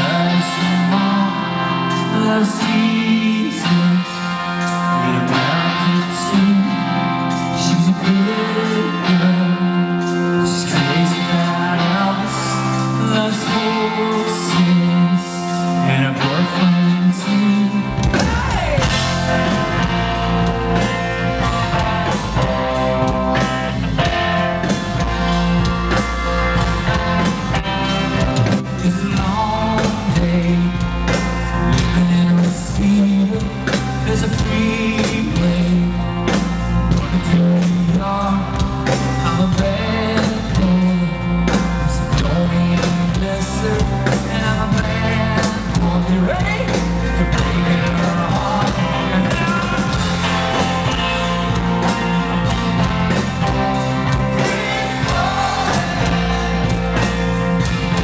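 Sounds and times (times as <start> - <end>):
bass guitar: 0.0 - 58.0
electric guitar: 0.0 - 58.0
man singing: 0.0 - 58.0.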